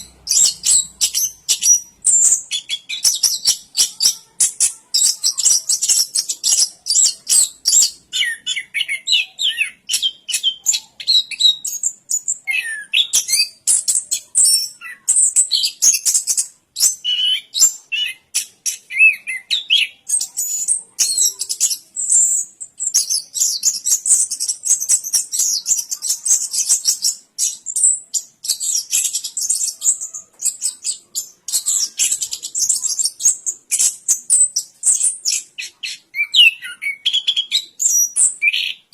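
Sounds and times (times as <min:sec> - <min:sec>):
lower whistled bird phrases: 0:00.0 - 0:38.9
thrush singing high twittering song: 0:00.0 - 0:38.9.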